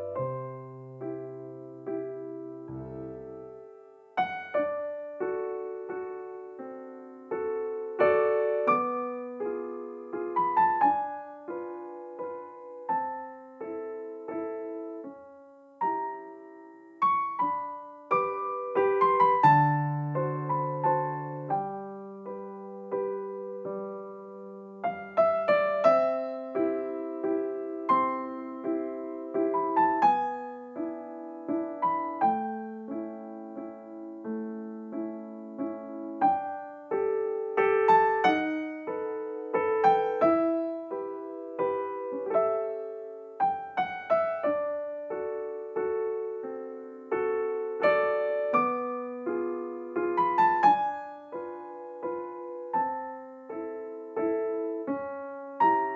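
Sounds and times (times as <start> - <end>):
gentle piano music: 0.0 - 55.9.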